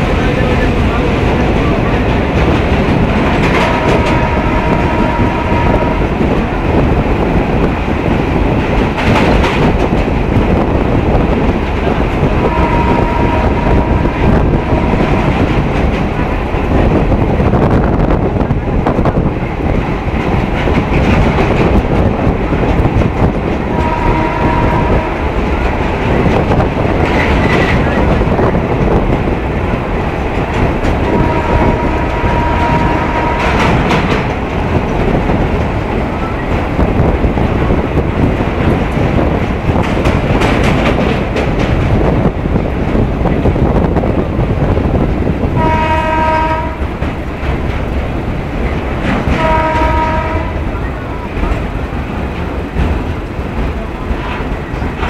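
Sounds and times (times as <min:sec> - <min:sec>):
train wheels rumbling on bridge: 0:00.0 - 0:55.0.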